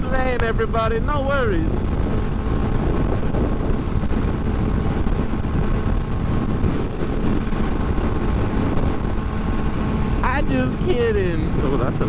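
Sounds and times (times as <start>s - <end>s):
wind rush on microphone: 0.0s - 12.0s
motorcycle engine running: 1.8s - 12.0s.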